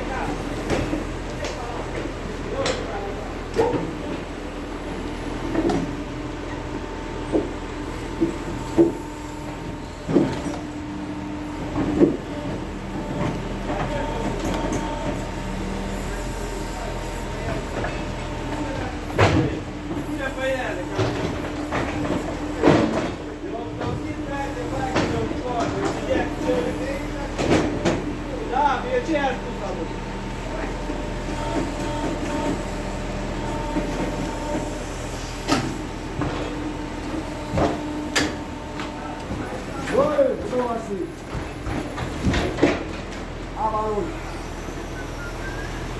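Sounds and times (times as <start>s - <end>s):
sawmill machinery humming: 0.0s - 45.9s.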